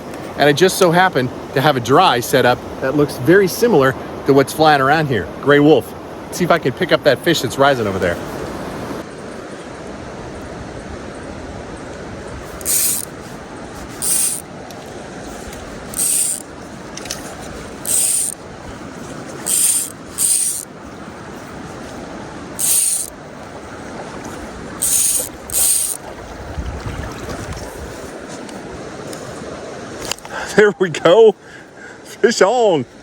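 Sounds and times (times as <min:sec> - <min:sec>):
mountain stream running: 0:00.0 - 0:33.0.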